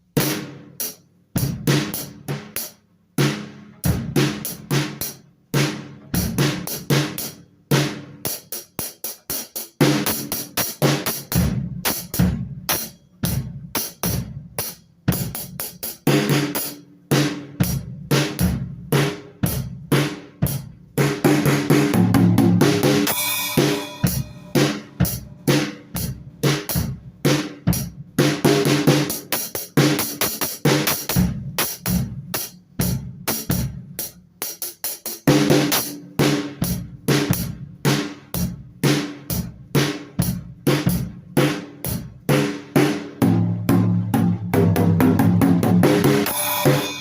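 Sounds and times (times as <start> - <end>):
drum kit playing: 0.0 - 47.0.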